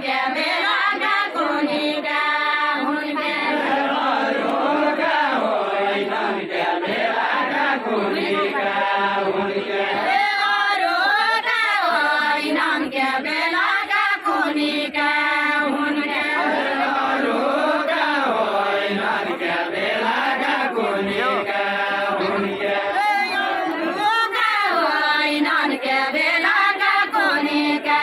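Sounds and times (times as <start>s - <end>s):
group singing folk song: 0.0s - 28.0s.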